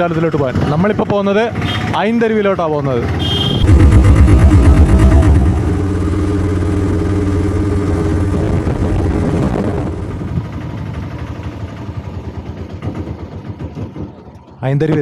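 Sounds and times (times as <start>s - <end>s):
auto-rickshaw engine running: 0.0s - 14.8s.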